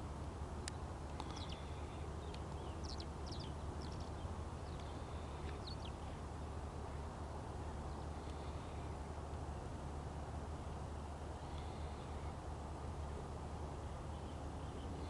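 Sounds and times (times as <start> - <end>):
steady low rumble: 0.0 - 15.0
small birds chirping: 0.6 - 9.2, 10.5 - 15.0.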